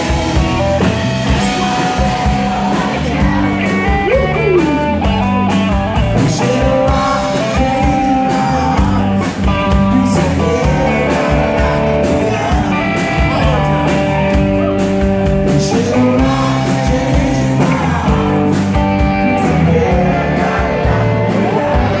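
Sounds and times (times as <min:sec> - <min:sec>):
drum kit beat: 0:00.0 - 0:22.0
electric guitars: 0:00.0 - 0:22.0
man singing lead: 0:00.0 - 0:22.0.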